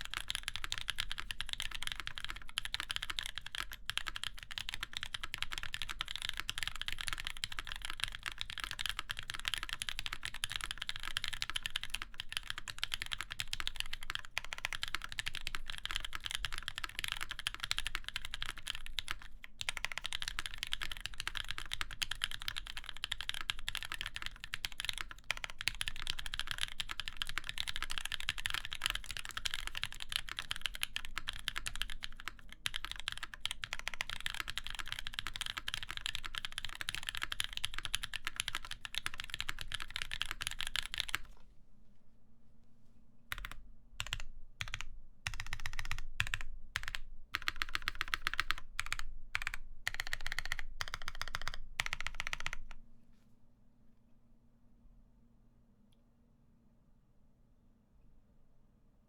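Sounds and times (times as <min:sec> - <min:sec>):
fast typing on mechanical keyboard: 0:00.0 - 0:41.4, 0:43.3 - 0:52.8.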